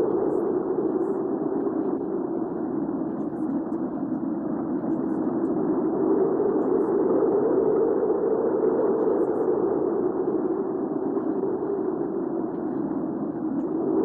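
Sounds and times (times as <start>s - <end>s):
muffled low rushing wind: 0.0s - 14.0s.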